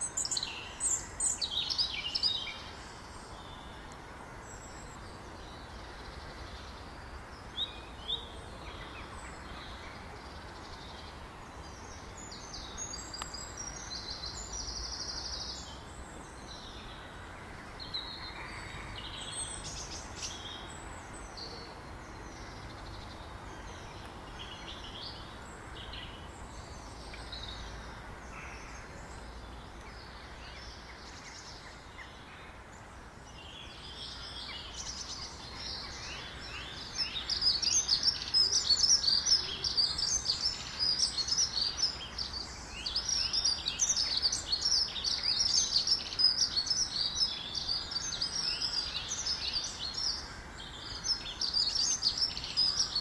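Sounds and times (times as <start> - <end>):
outdoor background hiss: 0.0 - 53.0
small birds chirping: 0.0 - 53.0.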